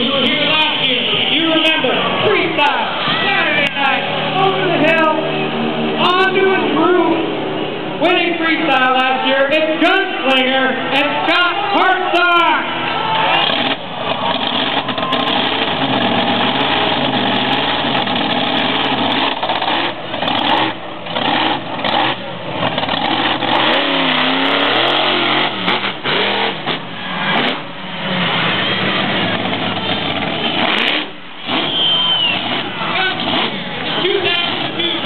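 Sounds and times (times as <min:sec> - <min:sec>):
truck engine revving: 0:00.0 - 0:35.0.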